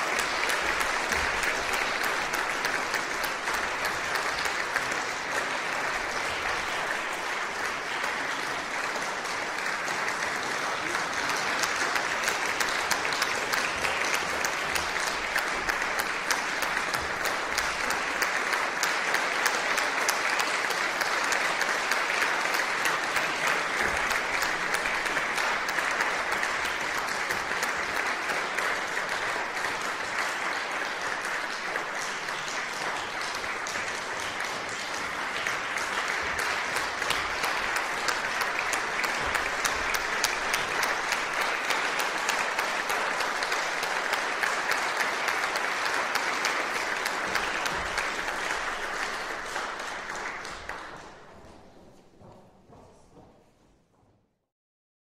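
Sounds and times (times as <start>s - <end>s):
audience applauding: 0.0s - 51.7s.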